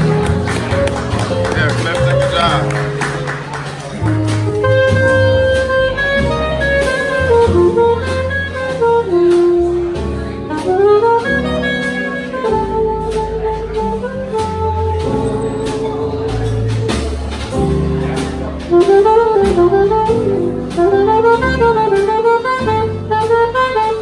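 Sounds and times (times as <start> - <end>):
drums: 0.0 - 24.0
saxophone solo: 0.0 - 24.0
upright bass: 0.0 - 24.0.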